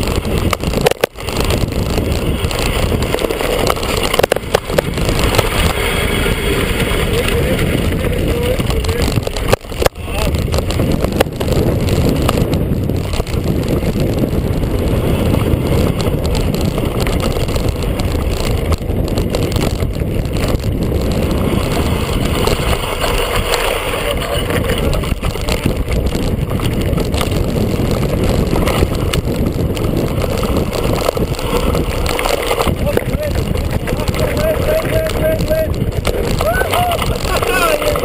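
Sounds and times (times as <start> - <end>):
bike rattling over bumps: 0.0 - 38.0
bike tyres rolling over stony trail: 0.0 - 38.0
wind on microphone: 0.0 - 38.0.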